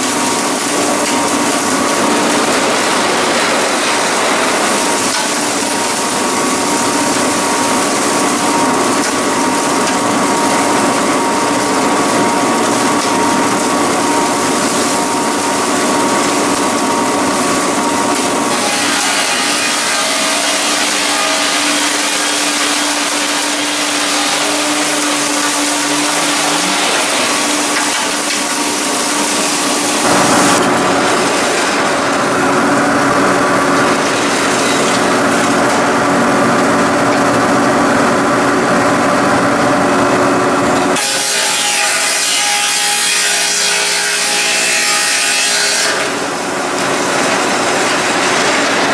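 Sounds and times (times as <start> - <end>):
steady machine hum: 0.0 - 41.8
sawmill cutting a log: 0.0 - 48.9.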